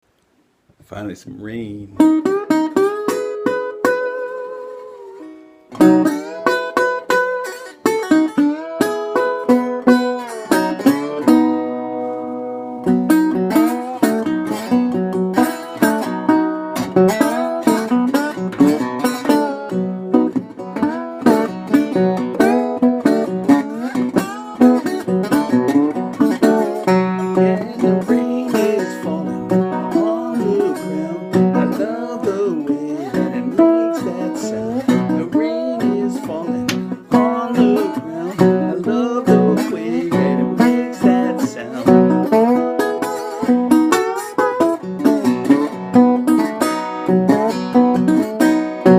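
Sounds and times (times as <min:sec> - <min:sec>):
plucked string instrument music: 0:01.5 - 0:48.9.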